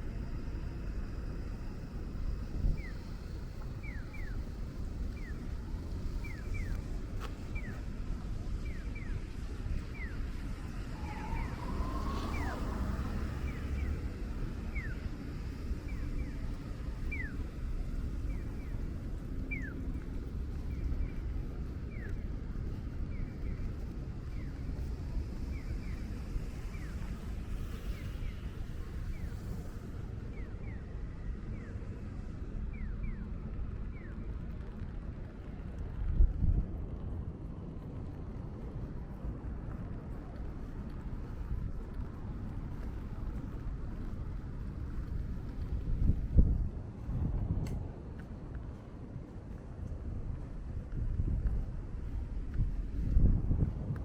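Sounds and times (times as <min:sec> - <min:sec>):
low wind gust: 0:00.0 - 0:54.0
traffic rumble: 0:00.0 - 0:54.0
wind: 0:00.0 - 0:54.0.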